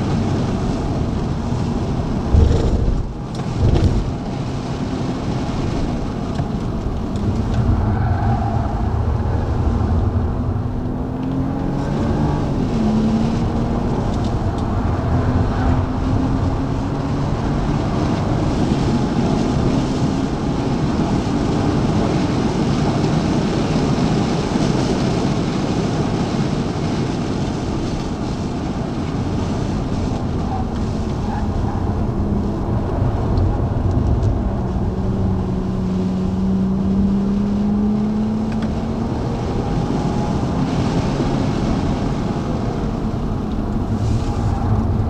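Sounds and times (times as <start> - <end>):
car engine accelerating: 0.0 - 45.0
wind and road noise: 0.0 - 45.0.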